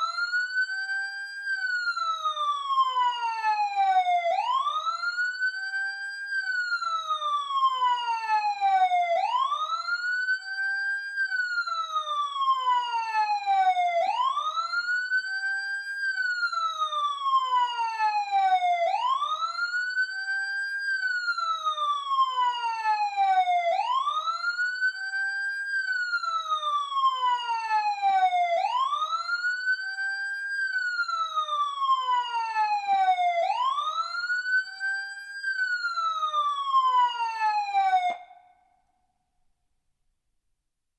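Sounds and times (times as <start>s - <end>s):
emergency siren wailing: 0.0s - 38.6s.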